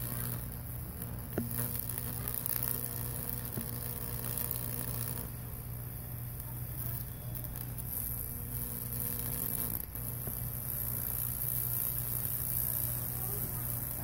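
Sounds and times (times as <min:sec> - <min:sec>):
high-voltage electrical buzz: 0:00.0 - 0:14.0
steady low hum: 0:00.0 - 0:14.0
wood burning hiss: 0:00.0 - 0:14.0.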